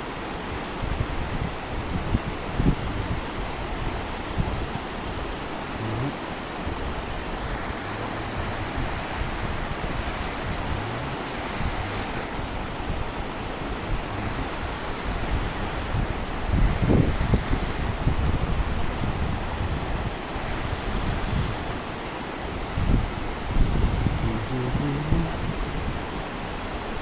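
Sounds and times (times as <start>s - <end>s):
stream water rushing: 0.0s - 27.0s
wind buffeting microphone: 0.7s - 27.0s.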